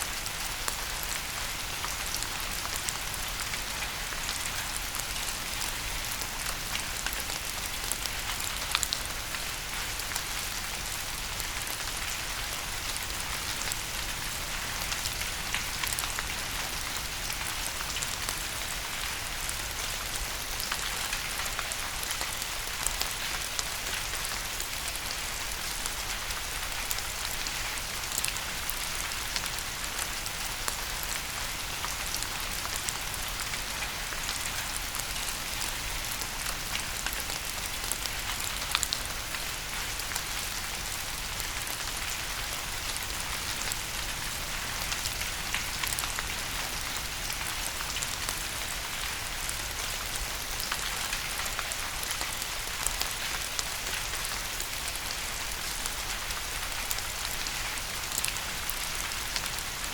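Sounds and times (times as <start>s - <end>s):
rain patter: 0.0s - 59.9s.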